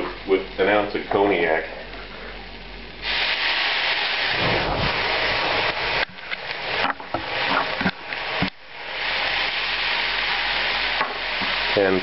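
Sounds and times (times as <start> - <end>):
alcohol flambeing with sizzling hiss: 0.0 - 12.0
flames rumbling: 0.0 - 12.0.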